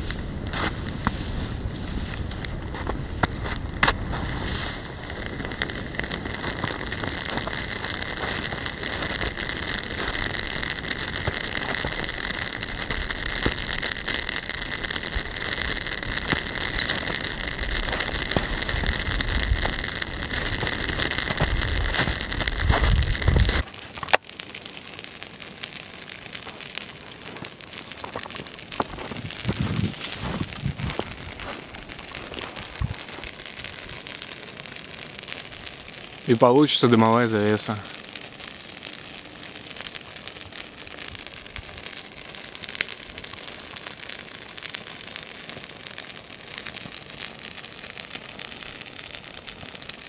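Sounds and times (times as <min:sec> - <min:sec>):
campfire crackling and hissing: 0:00.0 - 0:50.0.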